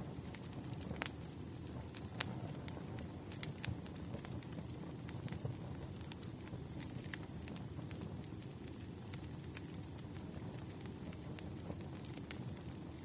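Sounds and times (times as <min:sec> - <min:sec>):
firewood crackling: 0:00.0 - 0:13.0
low rush of fire: 0:00.0 - 0:13.0.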